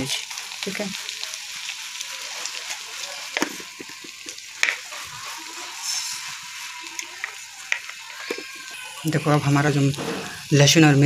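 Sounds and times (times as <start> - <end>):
spices sizzling and crackling in oil: 0.0 - 11.0.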